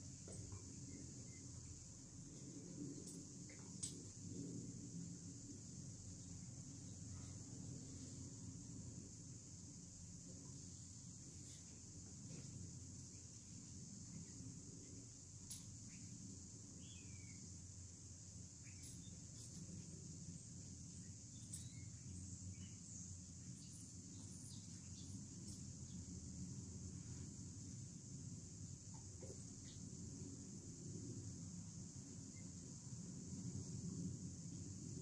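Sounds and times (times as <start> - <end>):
high insect drone: 0.0 - 35.0.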